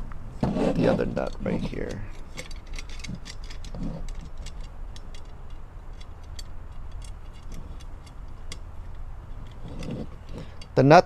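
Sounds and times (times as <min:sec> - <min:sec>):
metal clicks of nut threading: 0:01.3 - 0:10.8.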